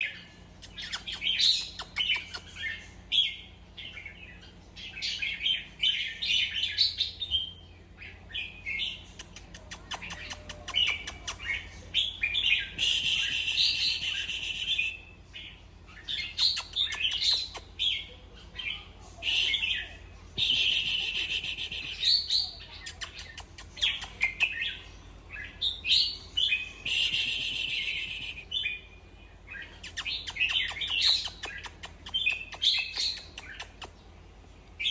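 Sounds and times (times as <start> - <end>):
bulbul singing: 0.0 - 34.1
faint low hum: 0.0 - 34.9.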